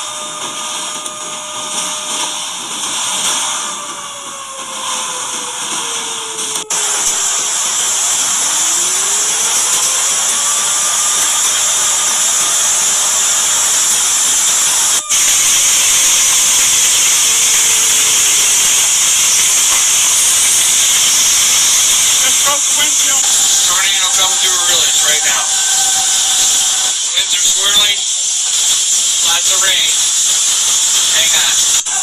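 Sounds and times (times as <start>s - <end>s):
storm wind and rain hissing: 0.0s - 32.0s.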